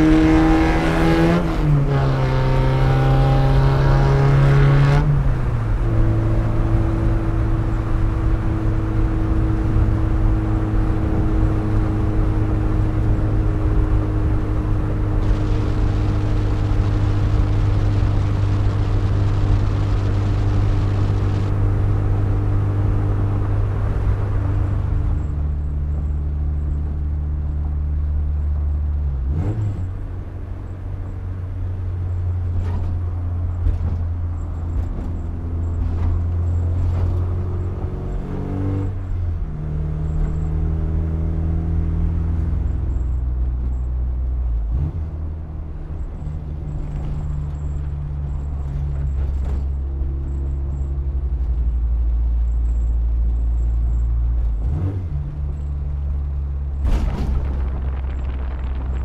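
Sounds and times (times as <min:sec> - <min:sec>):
car engine running: 0:00.0 - 0:40.8, 0:45.4 - 0:59.0
tyre and road noise: 0:00.0 - 0:59.0.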